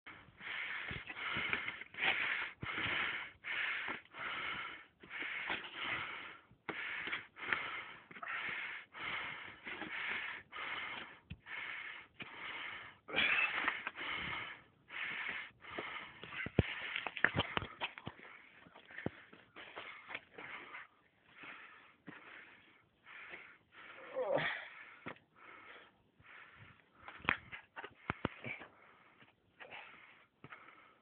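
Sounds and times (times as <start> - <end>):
person panting: 0.1 - 31.0.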